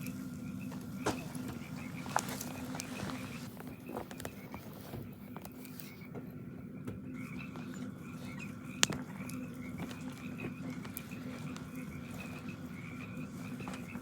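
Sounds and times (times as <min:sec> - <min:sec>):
frogs chirping in chorus: 0:00.0 - 0:14.0
low steady hum: 0:00.0 - 0:14.0.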